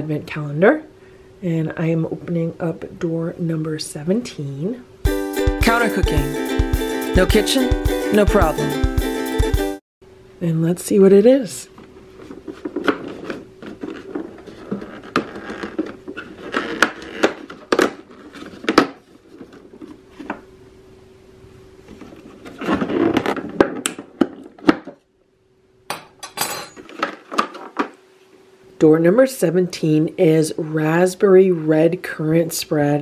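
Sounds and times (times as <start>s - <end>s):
faint steady hum: 0.0s - 5.1s, 10.0s - 33.0s.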